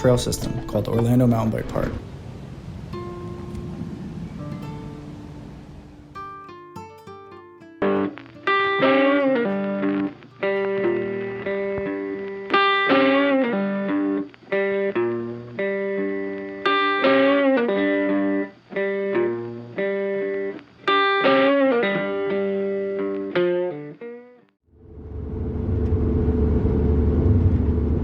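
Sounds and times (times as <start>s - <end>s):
plucked guitar melody: 0.0s - 2.2s, 2.9s - 24.5s.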